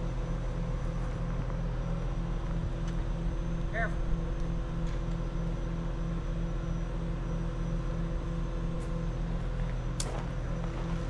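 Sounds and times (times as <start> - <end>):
crane engine humming: 0.0 - 11.0.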